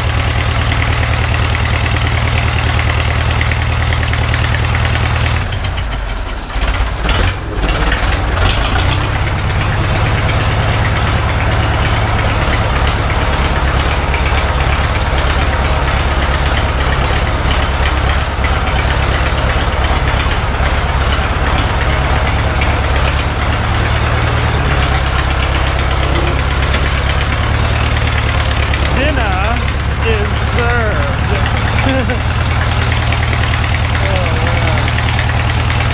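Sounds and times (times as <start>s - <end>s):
old farm vehicle engine running: 0.0s - 35.9s.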